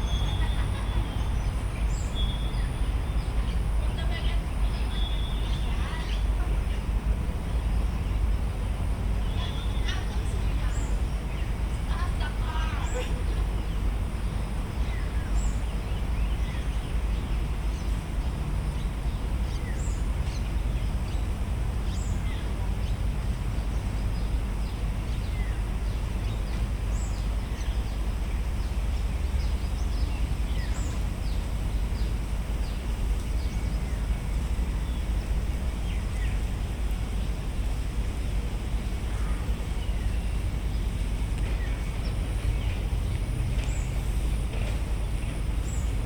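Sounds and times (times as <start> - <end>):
birds chirping: 0.0 - 46.0
steady low rumble: 0.0 - 46.0.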